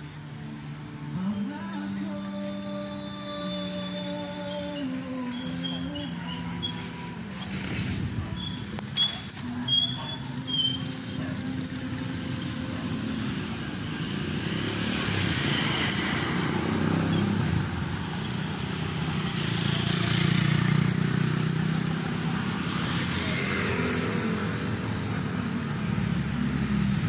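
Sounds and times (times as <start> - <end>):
short high chirp: 0.0 - 24.4
vehicle engine passing: 0.0 - 27.0.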